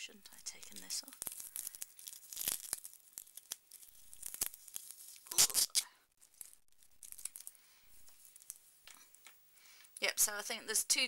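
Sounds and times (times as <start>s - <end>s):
wrapping crinkling and tearing: 0.3s - 9.3s.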